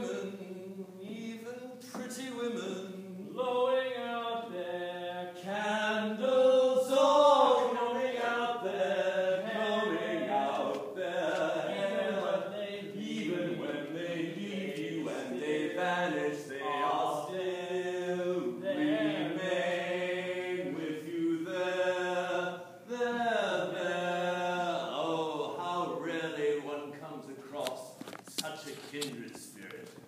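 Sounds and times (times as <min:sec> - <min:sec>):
two men singing a duet: 0:00.0 - 0:26.6.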